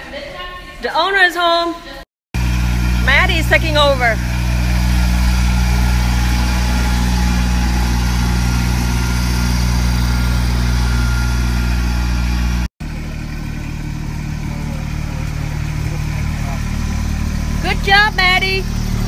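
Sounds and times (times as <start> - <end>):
engine humming: 2.4 - 19.0
quieter engine running: 2.4 - 19.0.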